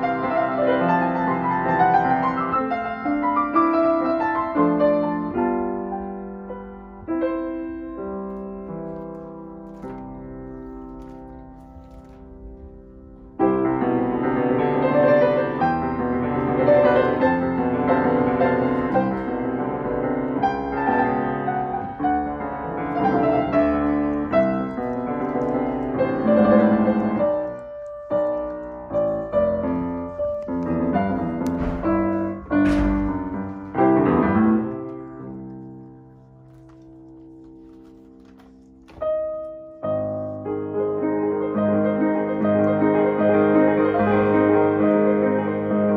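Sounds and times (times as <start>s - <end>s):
grand piano playing: 0.0s - 45.9s.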